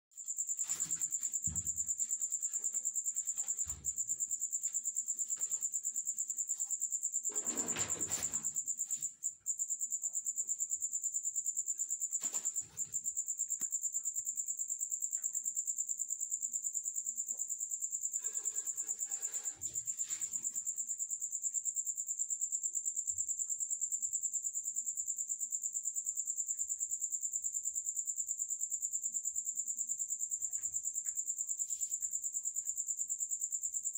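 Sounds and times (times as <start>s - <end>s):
crickets trilling: 0.2s - 33.9s.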